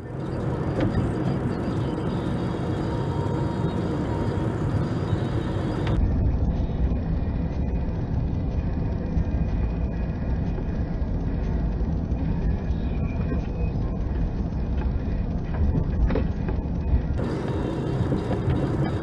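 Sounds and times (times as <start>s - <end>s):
car interior road and engine rumble: 0.0s - 19.0s.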